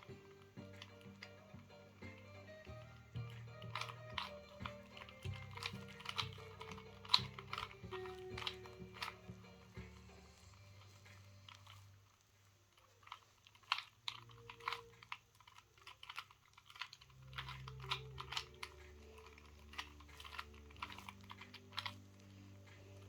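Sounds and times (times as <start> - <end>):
puzzle cube clicking: 0.0 - 23.0.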